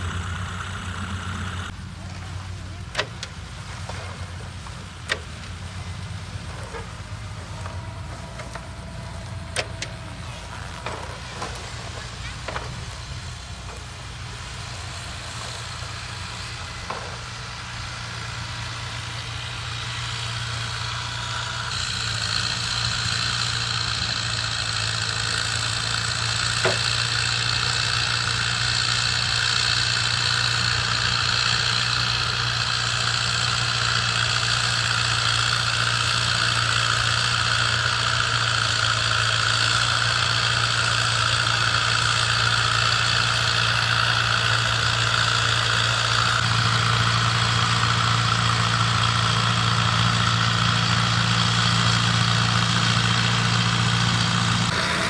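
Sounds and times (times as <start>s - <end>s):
small engine humming: 0.0s - 55.0s.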